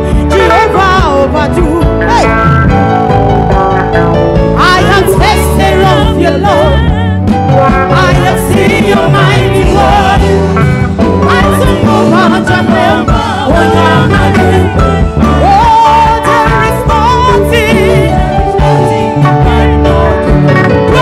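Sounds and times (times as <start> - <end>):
live band with guitar and drums: 0.0 - 21.0
woman singing gospel song: 0.1 - 2.0, 4.6 - 21.0.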